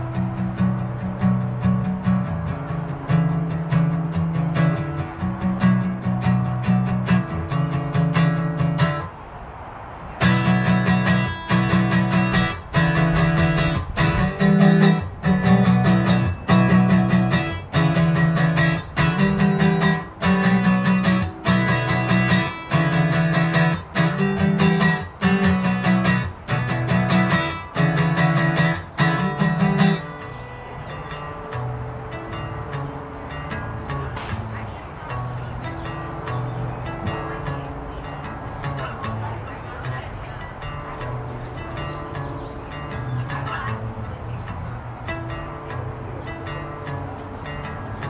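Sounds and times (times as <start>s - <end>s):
acoustic guitar strumming: 0.0s - 9.4s, 10.0s - 48.0s.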